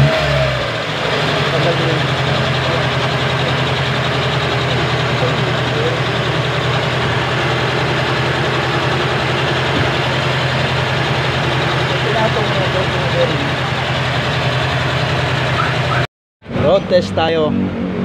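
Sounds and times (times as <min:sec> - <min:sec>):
car engine idling: 0:00.0 - 0:17.8.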